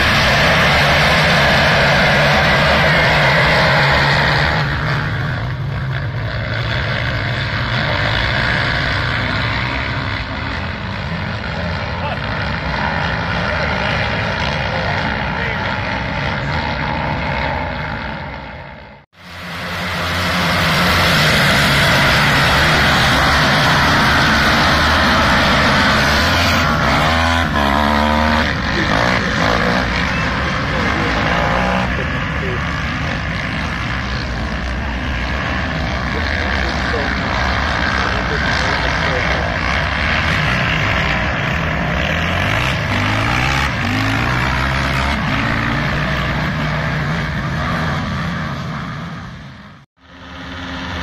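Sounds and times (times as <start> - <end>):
quad bike engines at full throttle: 0.0 - 51.0.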